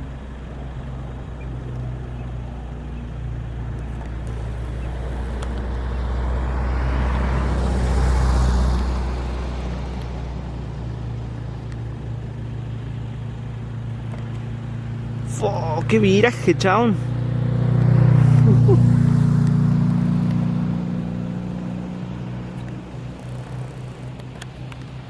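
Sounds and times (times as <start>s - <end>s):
aircraft flying low past: 0.0s - 25.0s
steady low hum: 0.0s - 25.0s.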